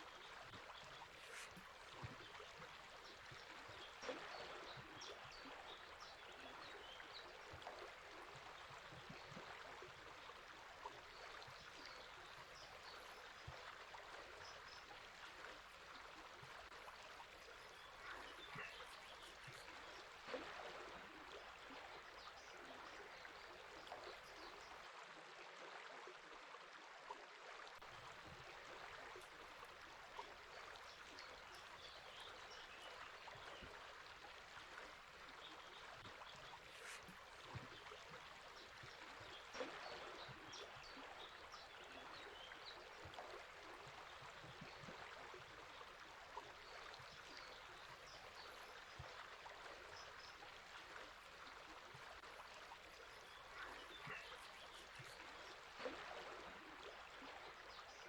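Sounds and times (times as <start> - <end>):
small birds chirping: 0.0 - 24.7, 28.4 - 58.0
flowing river water: 0.0 - 58.0.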